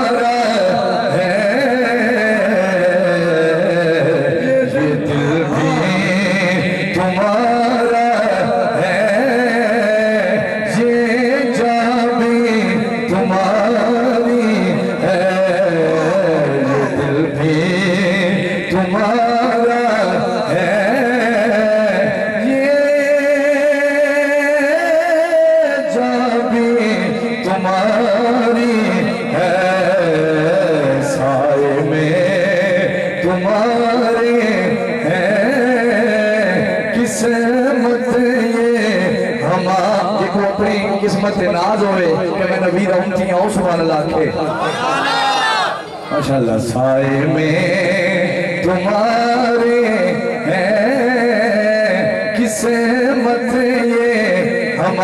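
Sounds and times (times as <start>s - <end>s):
man singing into a microphone: 0.0s - 44.6s, 46.1s - 55.0s.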